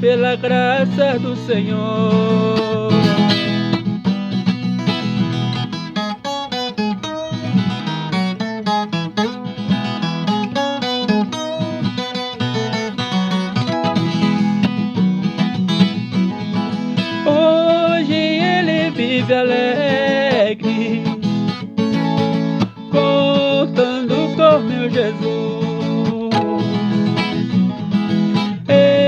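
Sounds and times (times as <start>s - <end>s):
guitar picked notes and strums: 0.0s - 29.0s.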